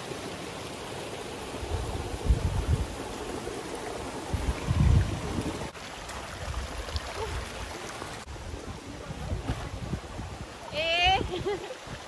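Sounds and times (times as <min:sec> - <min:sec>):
rushing mountain stream: 0:00.0 - 0:12.0.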